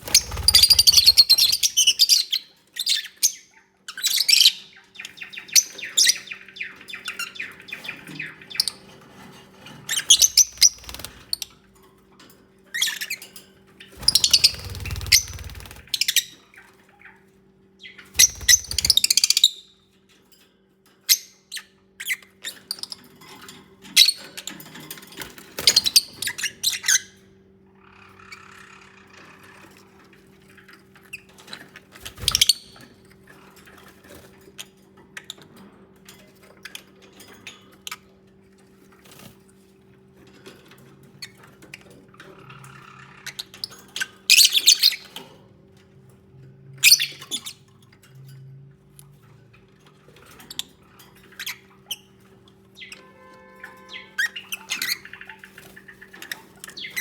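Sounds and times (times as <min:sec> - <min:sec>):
lovebirds chirping and squawking: 0:00.0 - 0:11.7, 0:12.7 - 0:19.7, 0:21.1 - 0:35.5, 0:41.0 - 0:45.4, 0:46.8 - 0:47.9, 0:49.8 - 0:57.0.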